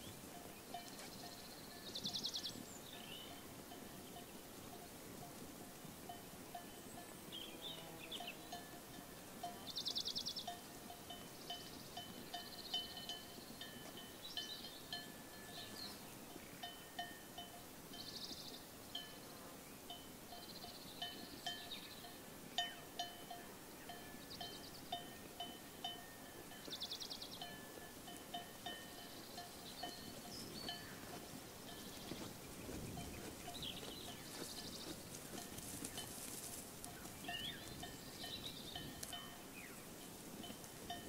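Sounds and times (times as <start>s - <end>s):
sheep bells clinking: 0.0s - 41.0s.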